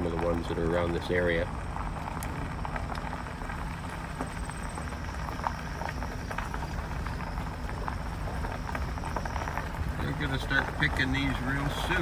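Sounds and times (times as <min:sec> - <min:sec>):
vehicle rumbling over rough ground: 0:00.0 - 0:12.0.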